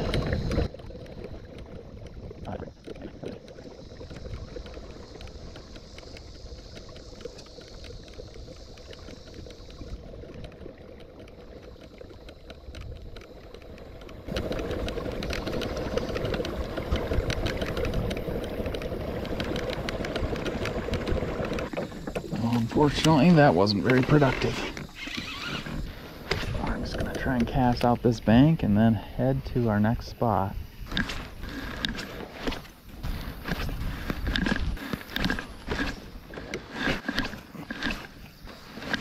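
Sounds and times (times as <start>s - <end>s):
water splashing around kayak: 0.0s - 39.0s.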